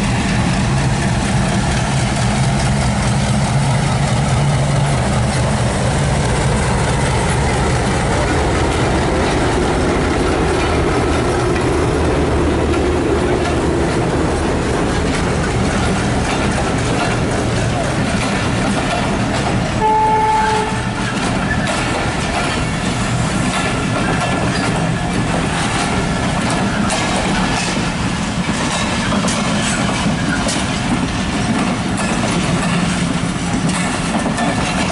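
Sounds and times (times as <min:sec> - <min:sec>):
diesel locomotive engine: 0:00.0 - 0:34.9
wheels clicking over rail joints: 0:00.0 - 0:34.9.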